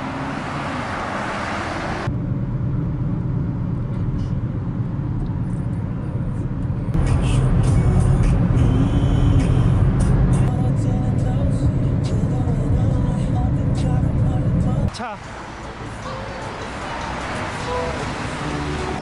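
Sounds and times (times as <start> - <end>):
car cabin road rumble: 0.0 - 19.0
road traffic noise: 0.0 - 19.0.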